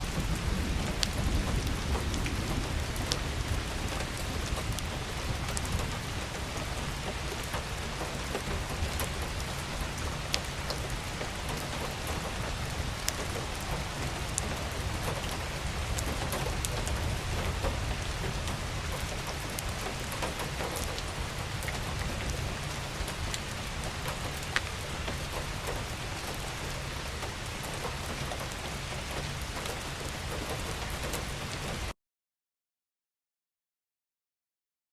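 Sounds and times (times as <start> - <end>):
steady rain on a surface: 0.0 - 32.0.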